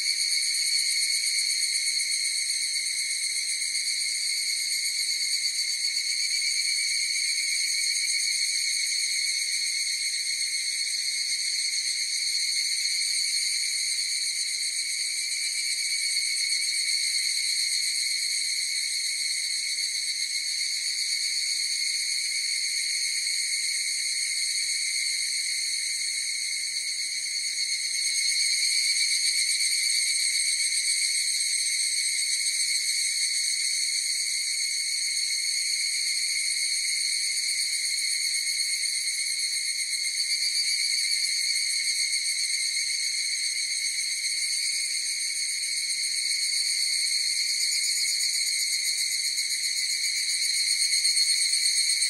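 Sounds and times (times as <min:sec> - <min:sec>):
cicadas calling in chorus: 0:00.0 - 0:52.0.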